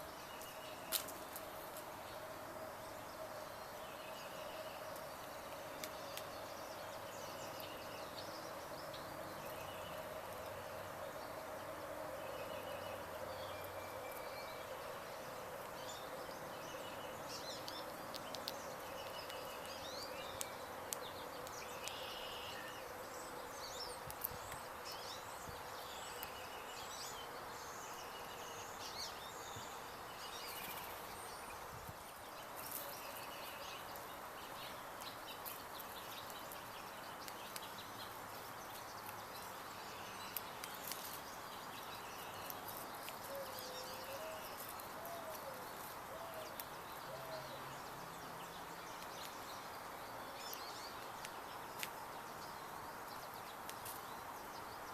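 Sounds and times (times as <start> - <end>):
outdoor background hum: 0.0 - 54.9
small birds chirping: 0.0 - 54.9.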